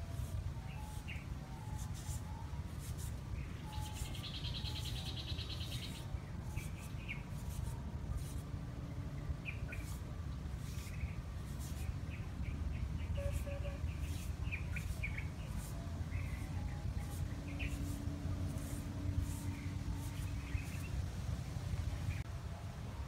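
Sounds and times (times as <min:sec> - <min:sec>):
small birds chirping: 0:00.1 - 0:08.4, 0:09.1 - 0:22.3.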